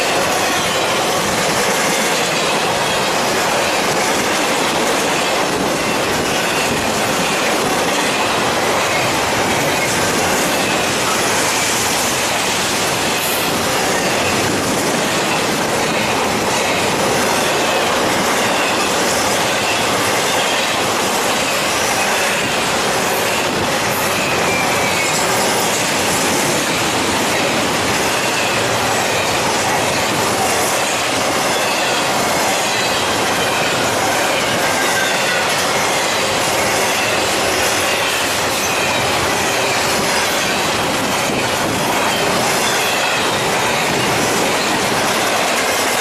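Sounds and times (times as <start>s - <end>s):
train wheels clicking over rail joints: 0.0s - 46.0s.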